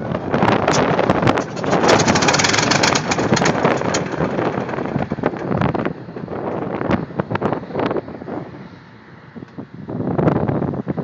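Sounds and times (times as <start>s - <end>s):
aircraft engine starting roughly: 0.0s - 9.2s.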